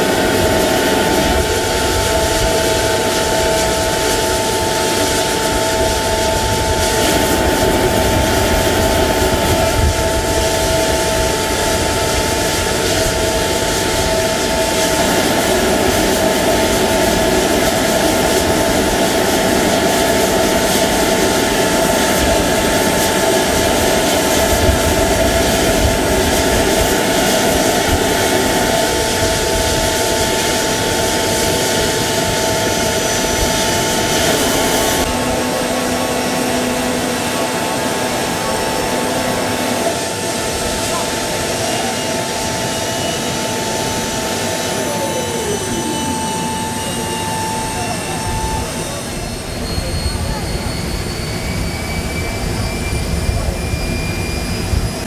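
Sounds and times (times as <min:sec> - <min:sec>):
jet turbine whine and rush: 0:00.0 - 0:55.0.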